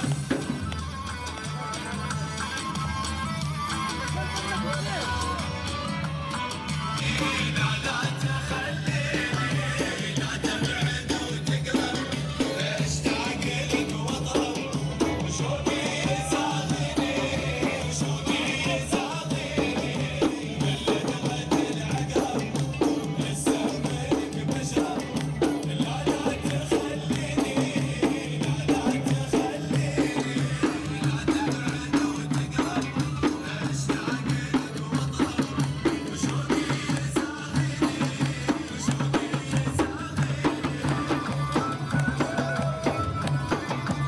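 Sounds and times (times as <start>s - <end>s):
drums beating: 0.0s - 44.0s
men chanting in low voices: 6.8s - 44.0s.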